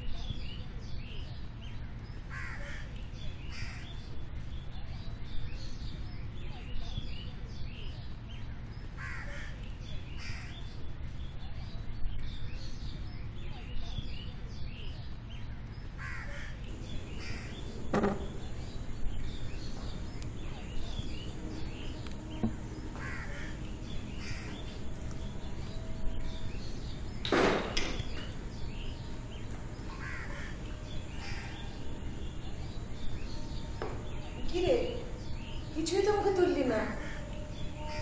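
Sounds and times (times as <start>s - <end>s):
birds calling: 0.0s - 38.0s
steady low hum: 0.0s - 38.0s.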